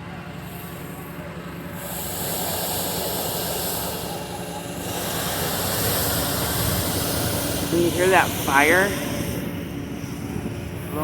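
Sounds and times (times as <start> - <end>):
propane burner blast: 0.0 - 11.0
steady low hum: 0.0 - 11.0.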